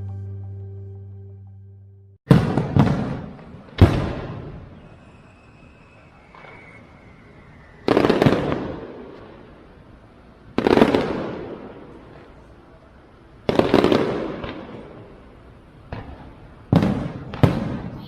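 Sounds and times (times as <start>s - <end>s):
fireworks banging: 2.3s - 12.5s, 13.4s - 18.0s.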